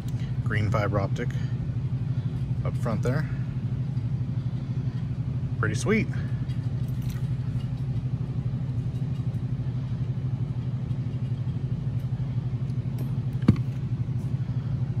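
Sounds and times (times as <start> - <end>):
low mechanical hum with flutter: 0.0 - 15.0.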